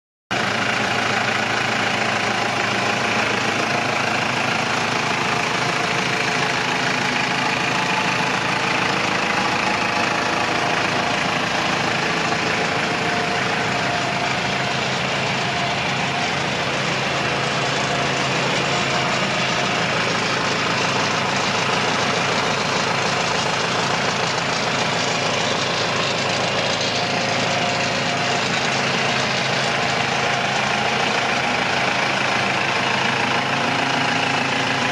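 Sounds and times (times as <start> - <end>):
tractor diesel engine idling: 0.3 - 34.9.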